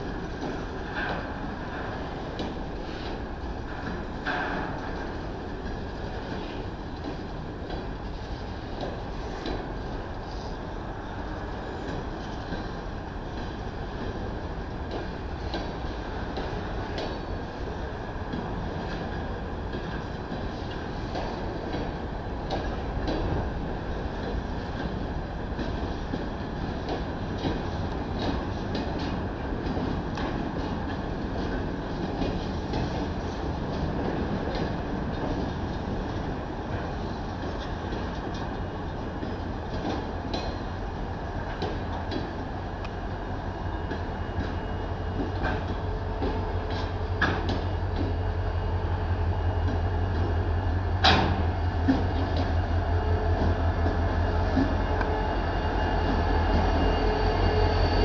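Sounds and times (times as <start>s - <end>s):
clicks and clanks of train: 0.0s - 58.0s
train wheels rumbling on rails: 0.0s - 58.0s.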